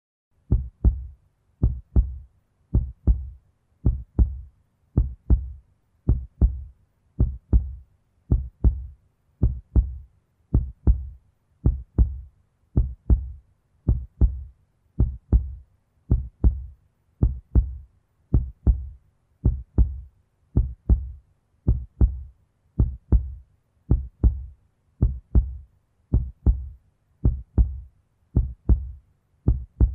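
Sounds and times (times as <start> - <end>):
heartbeat thumps: 0.5 - 29.9.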